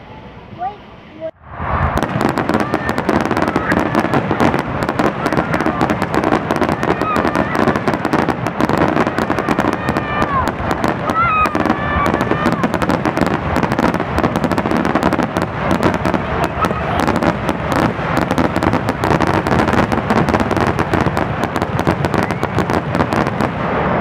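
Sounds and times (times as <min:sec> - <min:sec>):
fireworks bursts and crackles: 0:00.2 - 0:24.0.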